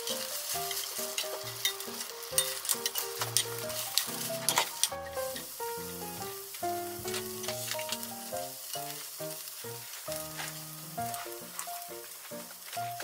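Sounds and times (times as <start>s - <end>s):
food sizzling in a frying pan: 0.0s - 13.0s
soft background music: 0.0s - 13.0s.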